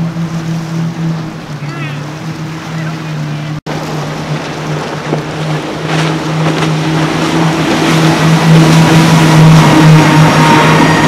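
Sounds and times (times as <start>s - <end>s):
outboard motors running: 0.0s - 11.0s
sharp water splashes: 0.0s - 11.0s
water rushing: 0.0s - 11.0s.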